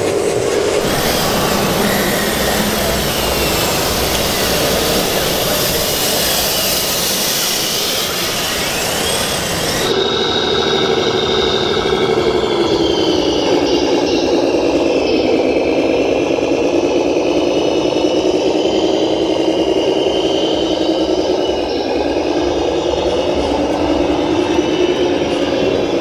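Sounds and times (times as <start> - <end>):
model loader motors whining: 0.0 - 26.0
model truck engine hum: 0.0 - 26.0.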